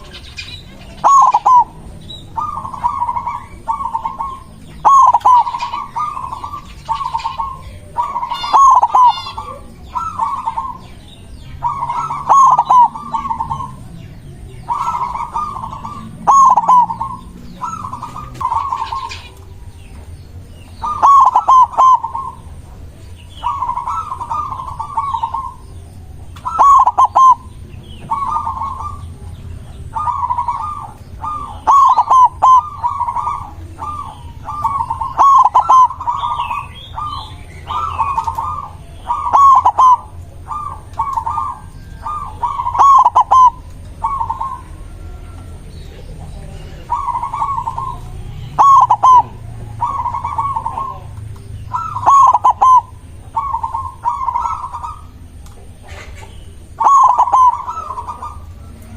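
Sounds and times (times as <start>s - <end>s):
dove cooing: 0.0s - 58.9s
small birds chirping: 0.0s - 58.9s.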